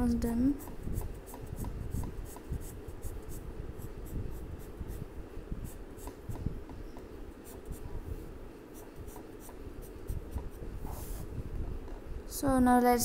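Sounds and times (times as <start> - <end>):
colored pencil shading on paper: 0.4 - 11.3.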